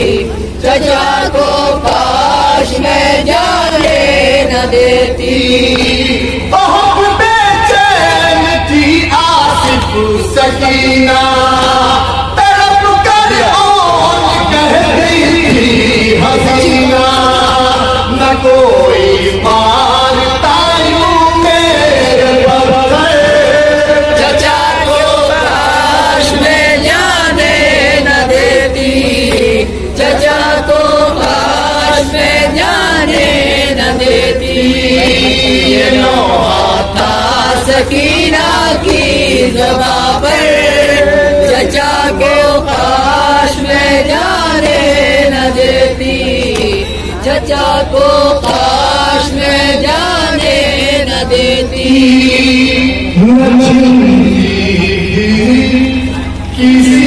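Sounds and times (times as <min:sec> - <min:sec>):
man singing into a microphone: 0:00.0 - 0:57.0
men chanting: 0:00.0 - 0:57.0
sharp rhythmic beats: 0:00.0 - 0:57.0.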